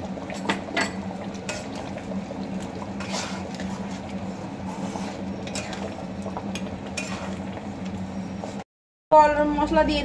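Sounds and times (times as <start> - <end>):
dal bubbling: 0.0 - 8.5
ladle stirring wet sloshing: 0.0 - 8.6.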